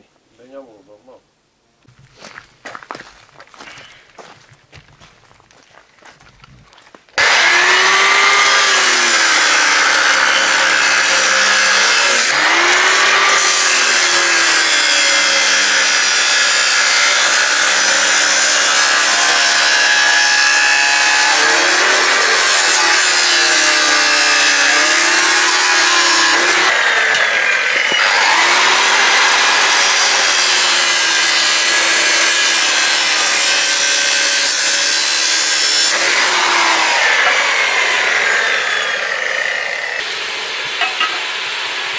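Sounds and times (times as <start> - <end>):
angle grinder cutting steel pipe: 7.2 - 41.9.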